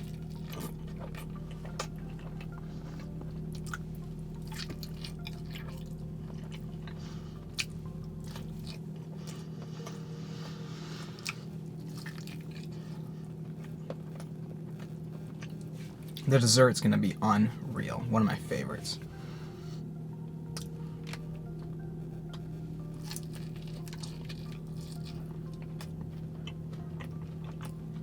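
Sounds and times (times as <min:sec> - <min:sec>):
person chewing food: 0:00.0 - 0:16.3, 0:20.5 - 0:28.0
steady low hum: 0:00.0 - 0:28.0.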